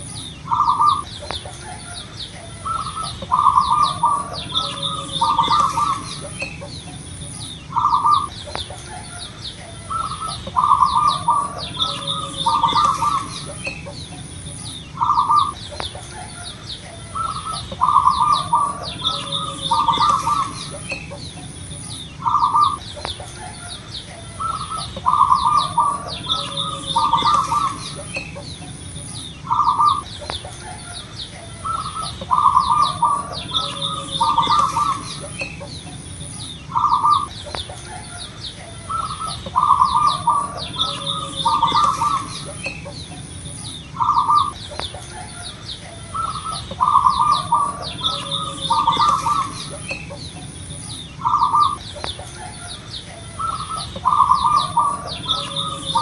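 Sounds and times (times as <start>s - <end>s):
dove cooing: 0.0s - 56.0s
small birds chirping: 0.0s - 56.0s.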